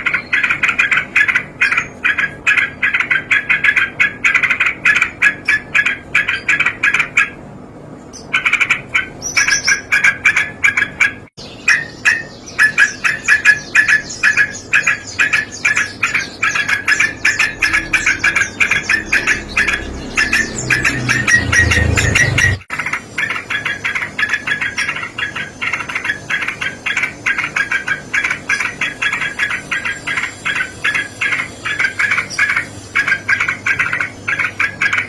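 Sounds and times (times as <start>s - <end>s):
bird calling repeated notes: 0.0s - 7.4s, 8.2s - 35.0s.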